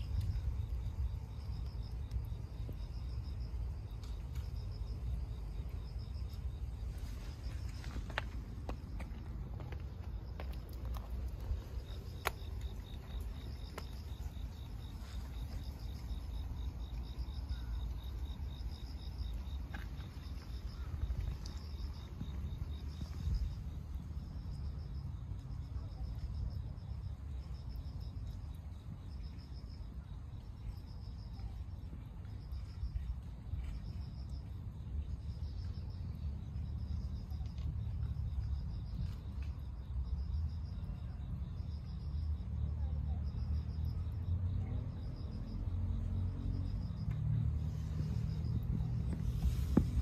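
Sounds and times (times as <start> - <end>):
steady low rumble: 0.0 - 40.6, 41.5 - 50.0
insects chirping in trills: 0.0 - 50.0.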